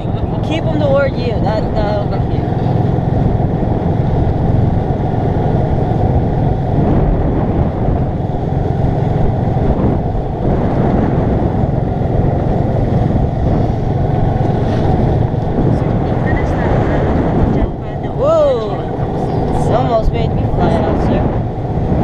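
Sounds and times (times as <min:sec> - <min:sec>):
golf cart rumbling: 0:00.0 - 0:22.0.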